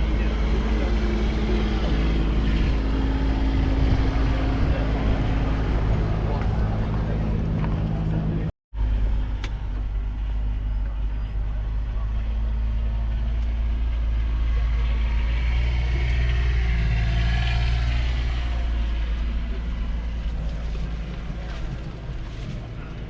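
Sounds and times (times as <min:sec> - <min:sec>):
steady low drone: 0:00.0 - 0:23.0.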